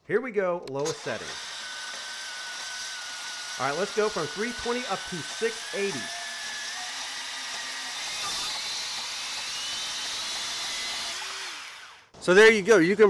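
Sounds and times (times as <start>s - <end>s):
band saw motor whining: 0.9s - 12.1s.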